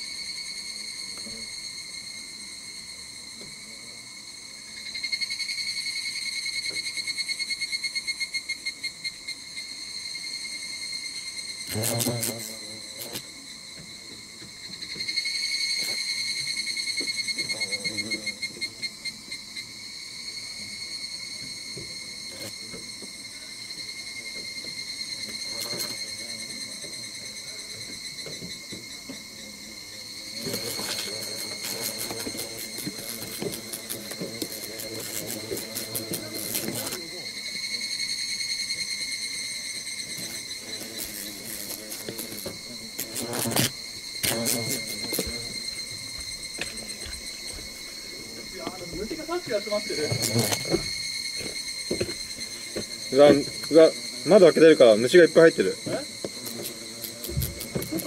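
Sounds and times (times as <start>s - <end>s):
insects high-pitched buzz: 0.0s - 58.0s
rapidly pulsing insect call: 0.0s - 58.0s.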